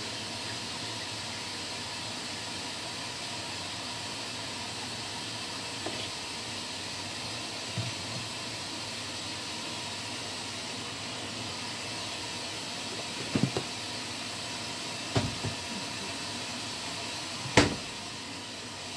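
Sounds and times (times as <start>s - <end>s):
steady hiss: 0.0s - 18.9s.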